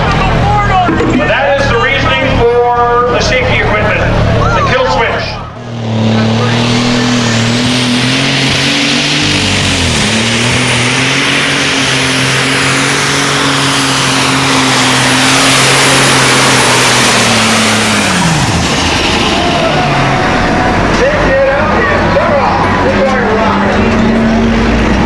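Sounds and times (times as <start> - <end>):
tractor engine revving hard: 0.0 - 25.0.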